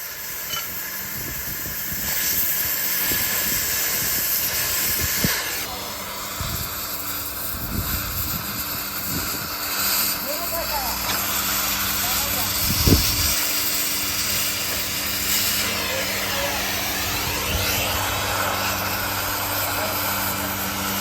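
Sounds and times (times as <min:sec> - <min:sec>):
loud hissing: 0:00.0 - 0:21.0.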